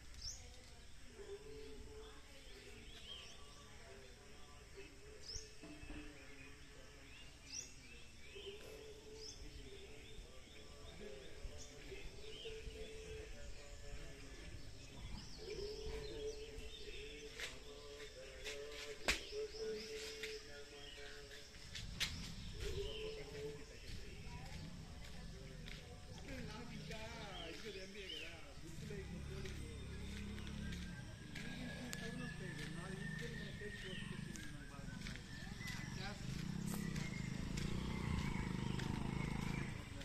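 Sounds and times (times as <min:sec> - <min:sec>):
bird chirps: 0:01.2 - 0:40.0.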